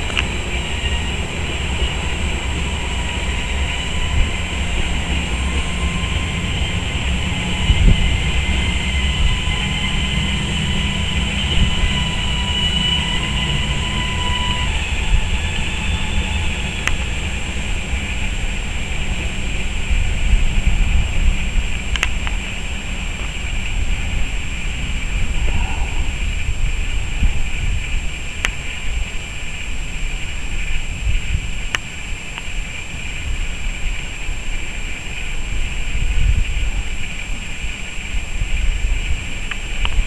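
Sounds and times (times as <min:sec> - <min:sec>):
low train rumble: 0:00.0 - 0:40.0
train wheels squealing: 0:00.0 - 0:40.0.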